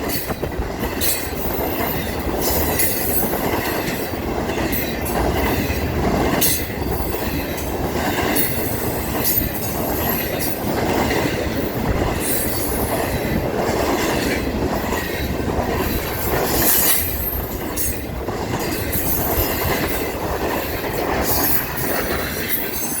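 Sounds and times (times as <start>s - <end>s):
train clattering: 0.0s - 23.0s
train wheels rumbling on rail: 0.0s - 23.0s.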